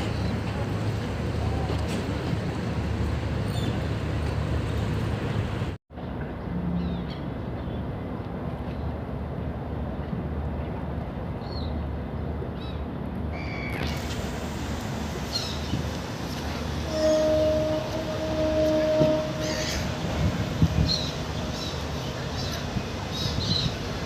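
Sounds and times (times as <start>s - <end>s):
rumble of boat and traffic engines: 0.0s - 24.0s.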